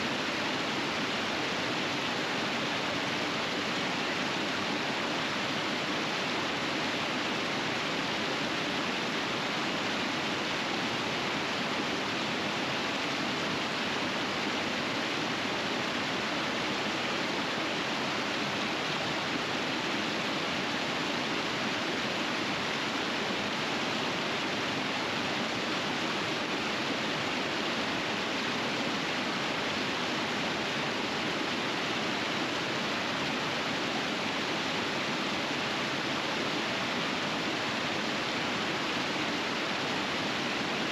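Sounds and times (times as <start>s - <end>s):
river rushing over rapids: 0.0s - 40.9s.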